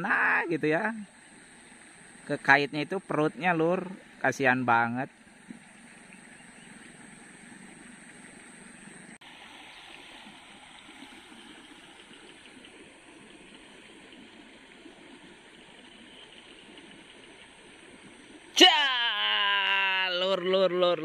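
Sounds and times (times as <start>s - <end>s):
creek water rushing and gurgling: 0.0s - 21.0s.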